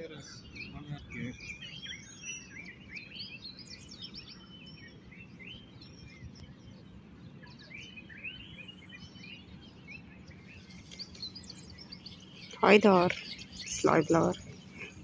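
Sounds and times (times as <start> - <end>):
birds chirping: 0.0 - 15.0
low steady background noise: 0.0 - 15.0.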